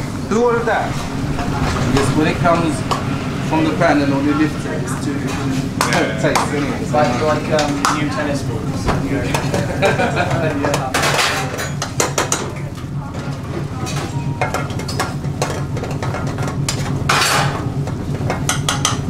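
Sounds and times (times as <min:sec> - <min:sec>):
low kitchen hum: 0:00.0 - 0:19.0.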